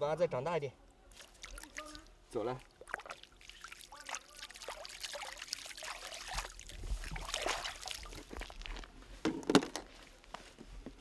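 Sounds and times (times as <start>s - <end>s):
water splashing and trickling: 1.1s - 10.0s.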